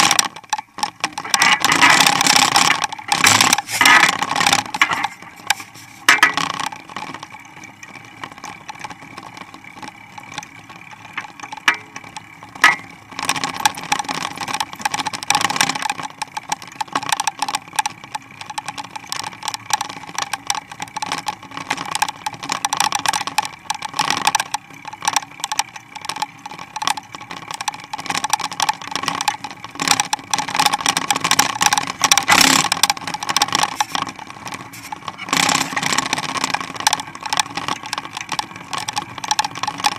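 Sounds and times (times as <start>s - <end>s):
bike rattling and clattering: 0.0s - 39.9s
bike rolling on pavement: 0.0s - 39.9s.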